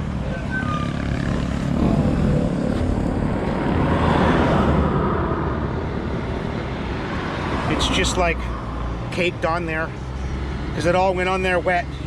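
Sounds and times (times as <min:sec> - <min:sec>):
vehicle passing: 0:00.8 - 0:10.8.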